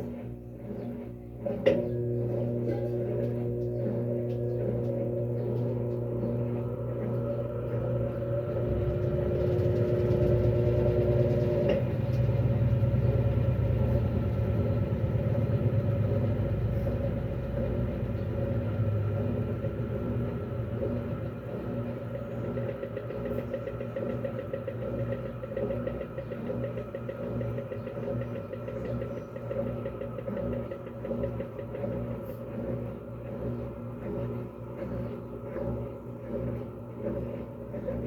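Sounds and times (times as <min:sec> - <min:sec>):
washing machine spinning: 0:00.0 - 0:38.0.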